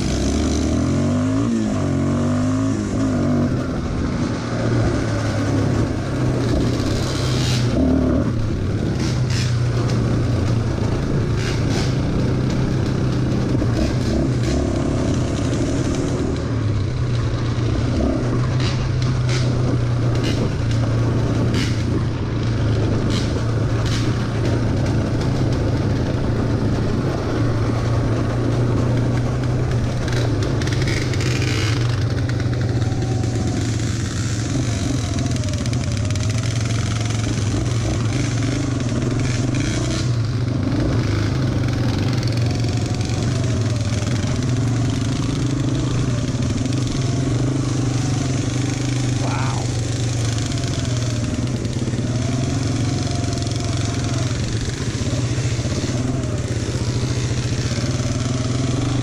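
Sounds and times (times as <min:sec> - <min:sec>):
atv engine droning: 0:00.0 - 0:59.0.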